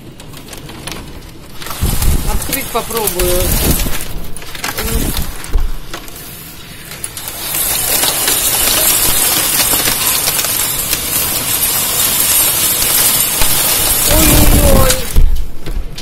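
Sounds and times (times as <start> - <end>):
hail clattering: 0.0 - 16.0
rain hissing: 1.4 - 15.7.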